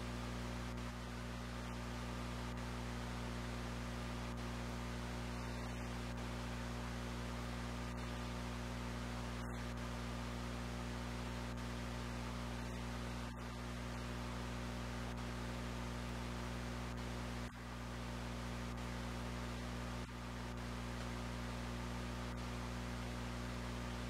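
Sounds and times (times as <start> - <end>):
electrical hum: 0.0 - 24.0
tape hiss: 0.0 - 24.0.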